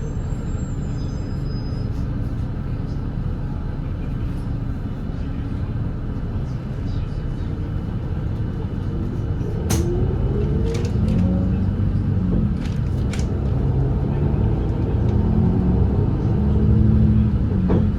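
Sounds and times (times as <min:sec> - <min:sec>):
bus diesel engine rumble: 0:00.0 - 0:17.9.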